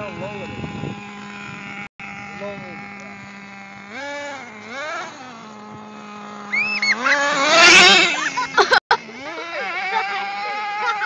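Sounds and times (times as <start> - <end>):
toy truck motor whining: 0.5 - 11.0.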